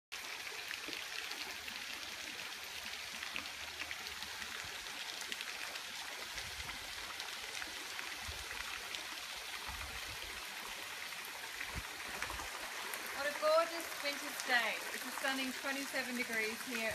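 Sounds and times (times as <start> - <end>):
small splashes: 0.2 - 16.9
water trickling: 0.2 - 16.9.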